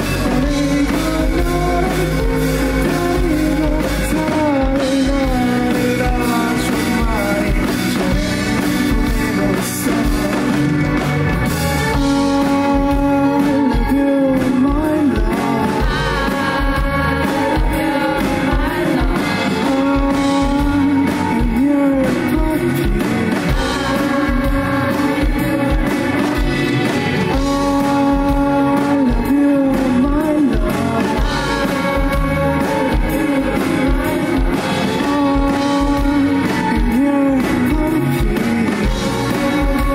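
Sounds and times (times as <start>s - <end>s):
man singing: 0.0s - 11.2s, 11.8s - 39.9s
electric guitar: 0.0s - 39.9s
steady drum beat: 0.0s - 39.9s.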